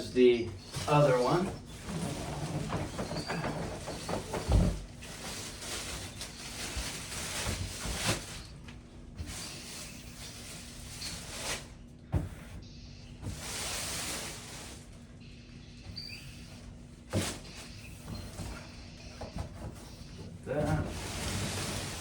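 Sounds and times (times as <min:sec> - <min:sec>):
cardboard and foam rustling: 0:00.0 - 0:12.6, 0:13.2 - 0:15.0, 0:16.5 - 0:22.0.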